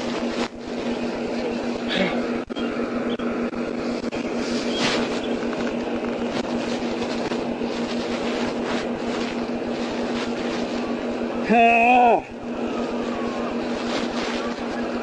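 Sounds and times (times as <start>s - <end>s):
constant rumbling noise: 0.0s - 15.0s
vehicle engine humming: 0.0s - 15.0s.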